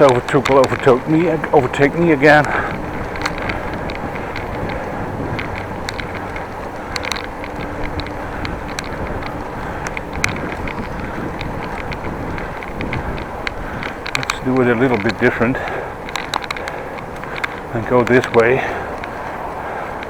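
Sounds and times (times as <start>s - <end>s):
light clicks and rattles: 0.0s - 20.0s
wind and road noise cycling: 0.0s - 20.0s.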